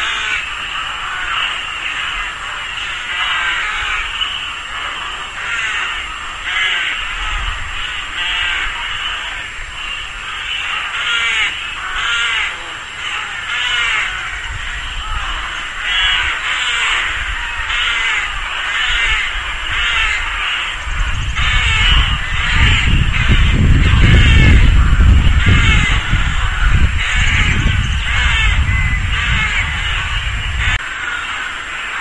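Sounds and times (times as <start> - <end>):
rooks cawing: 0.0 - 32.0.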